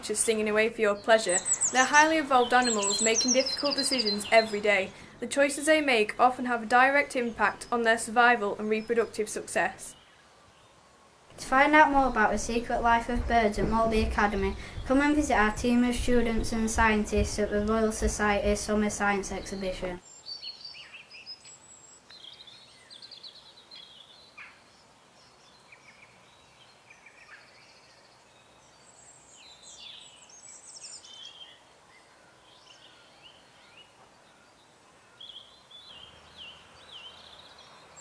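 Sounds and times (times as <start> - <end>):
birds chirping and trilling: 0.0 - 38.0.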